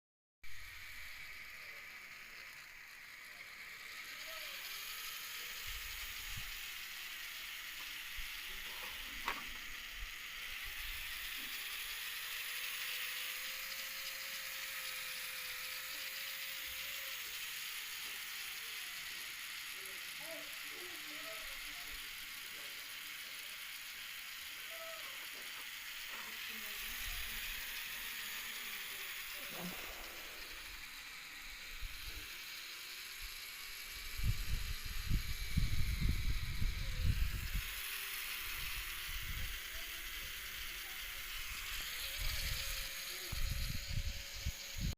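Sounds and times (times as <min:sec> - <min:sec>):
small gear motors whirring: 0:00.4 - 0:44.9.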